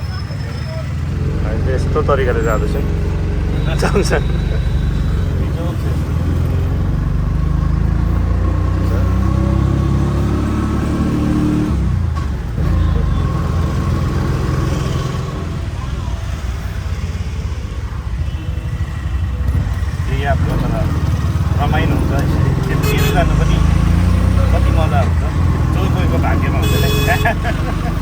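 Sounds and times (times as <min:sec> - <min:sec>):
vehicle engine accelerating: 0:00.0 - 0:18.2, 0:19.0 - 0:28.0.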